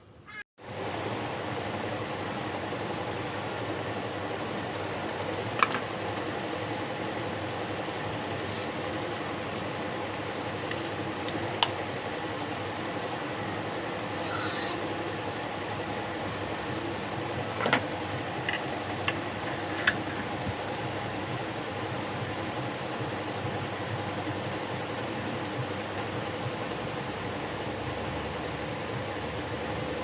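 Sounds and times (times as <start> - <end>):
electric fan whirring: 0.0 - 30.0.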